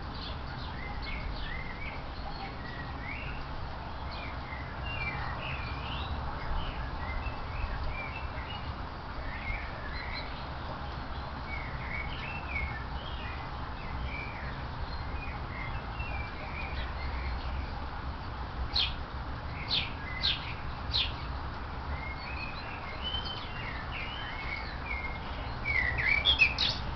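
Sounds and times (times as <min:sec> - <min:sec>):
songbirds chirping and twittering: 0:00.0 - 0:26.9.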